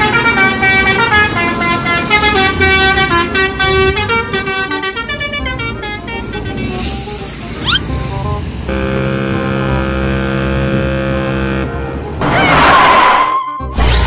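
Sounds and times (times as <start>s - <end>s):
multi-tone air horn tune: 0.0s - 7.9s, 8.7s - 13.8s
bus rumble: 0.0s - 13.0s.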